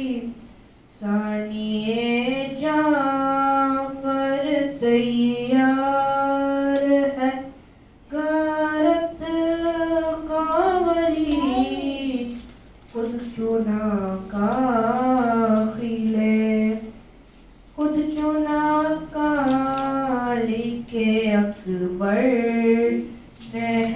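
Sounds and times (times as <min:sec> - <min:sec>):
boy chanting: 0:00.0 - 0:17.0, 0:17.8 - 0:23.9.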